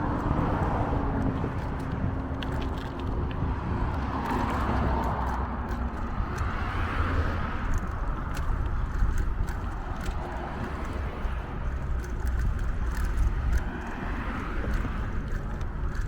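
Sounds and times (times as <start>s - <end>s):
bicycle tyre and road noise: 0.0s - 16.0s
light clicks and rattles: 0.0s - 16.0s
wind buffeting microphone: 0.0s - 16.0s.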